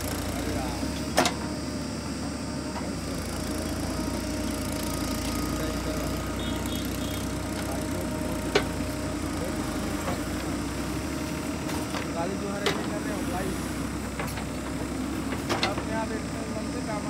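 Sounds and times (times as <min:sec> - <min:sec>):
backhoe digging soil: 0:00.0 - 0:16.6
diesel engine running: 0:00.0 - 0:17.0.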